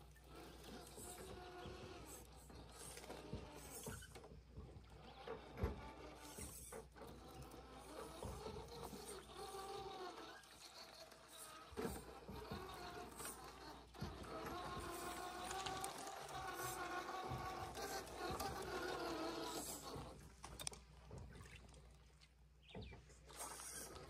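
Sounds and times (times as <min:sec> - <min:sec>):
small electric motor whining: 0:00.0 - 0:20.8, 0:23.3 - 0:24.0.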